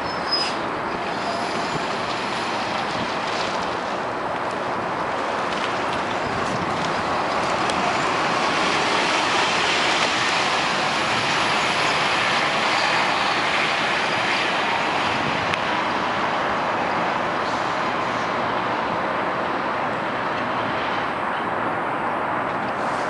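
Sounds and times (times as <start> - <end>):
bus diesel engine passing: 0.0 - 23.0
road and tyre noise: 0.0 - 23.0.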